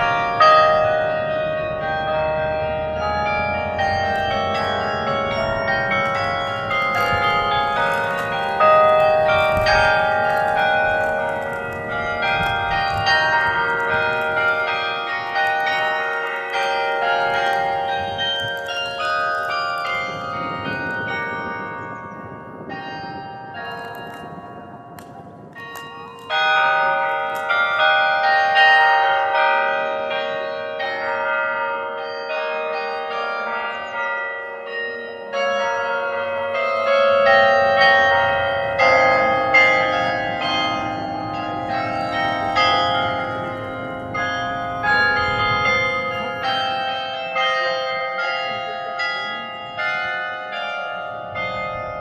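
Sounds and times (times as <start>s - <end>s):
tower bells playing a melody: 0.0s - 52.0s.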